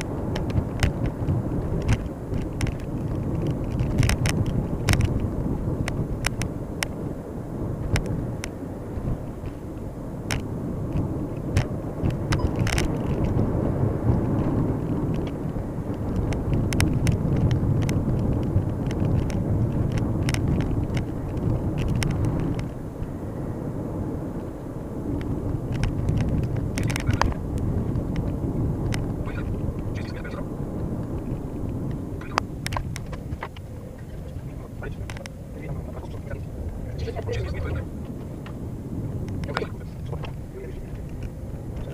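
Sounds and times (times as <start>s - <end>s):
car road and engine noise: 0.0s - 41.9s.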